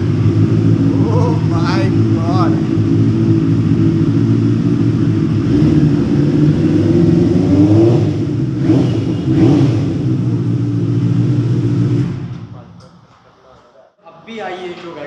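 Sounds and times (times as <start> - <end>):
motorcycle engine idling and revving: 0.0 - 13.1.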